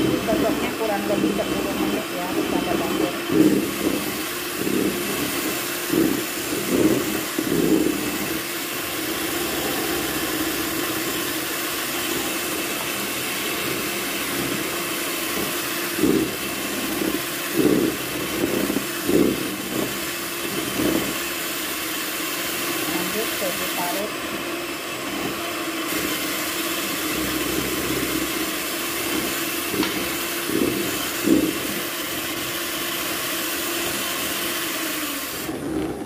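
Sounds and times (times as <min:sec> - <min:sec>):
electric hand mixer whipping batter: 0:00.0 - 0:36.0.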